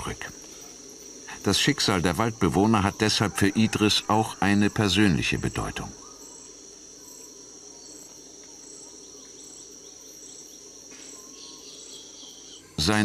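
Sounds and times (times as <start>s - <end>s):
high pulsing insect call: 0.0s - 13.0s
insects chirring: 0.0s - 13.0s.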